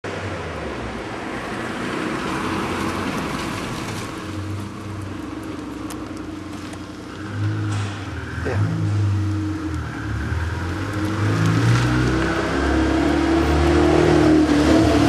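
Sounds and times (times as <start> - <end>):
street noise: 0.0 - 15.0
car engine humming: 0.1 - 15.0.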